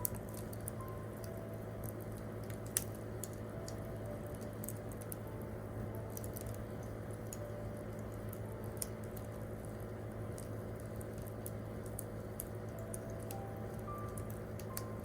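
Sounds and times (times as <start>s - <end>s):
campfire crackling: 0.0s - 14.9s
soft piano notes: 0.0s - 15.0s.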